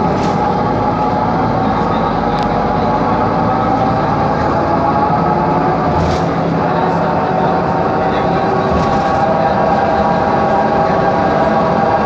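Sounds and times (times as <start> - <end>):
bus running noise: 0.0 - 12.0.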